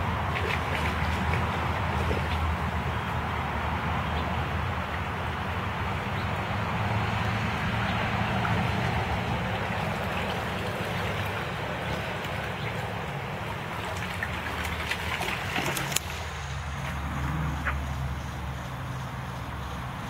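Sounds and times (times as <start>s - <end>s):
rushing background noise: 0.0s - 20.0s
steady low hum: 0.0s - 20.0s
water splashes: 0.0s - 20.0s.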